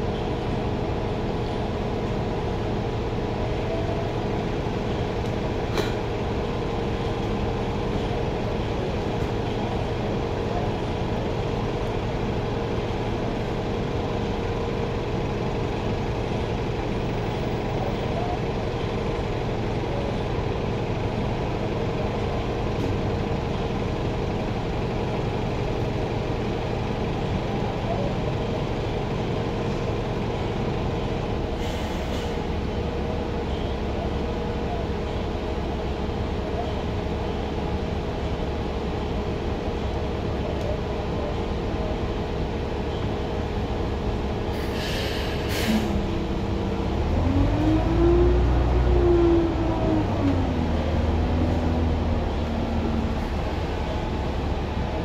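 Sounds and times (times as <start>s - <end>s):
bus engine hum: 0.0s - 55.0s.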